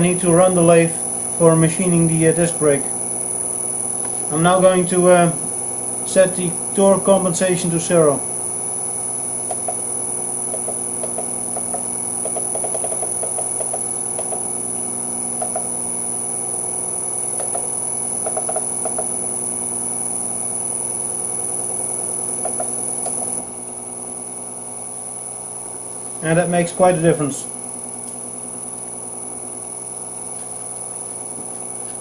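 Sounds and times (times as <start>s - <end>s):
electric motor humming with whine: 0.0s - 32.0s.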